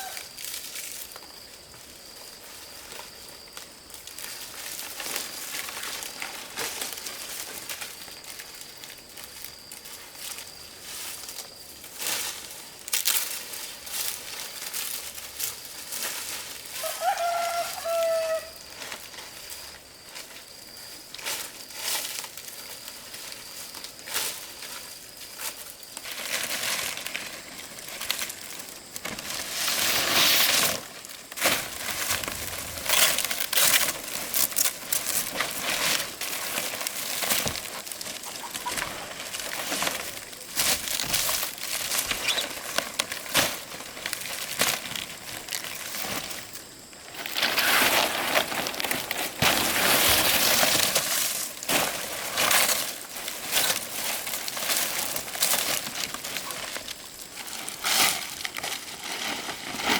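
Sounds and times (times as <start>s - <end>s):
dry leaves rustling and crackling: 0.0s - 59.9s.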